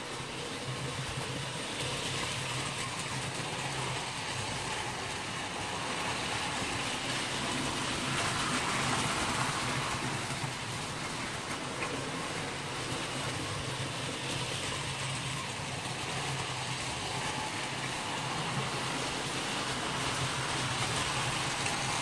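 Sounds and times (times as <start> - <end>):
model train motor hum: 0.0 - 22.0
wheels on metal track: 0.0 - 22.0.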